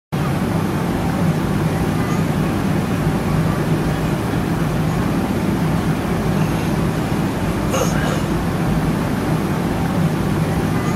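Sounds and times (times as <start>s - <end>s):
airliner engines and airflow: 0.2s - 10.9s
constant low hum: 0.2s - 10.9s.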